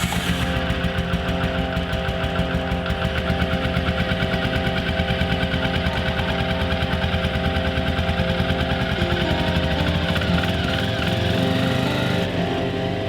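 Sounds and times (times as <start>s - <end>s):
small petrol engine pulsing: 0.0s - 13.0s.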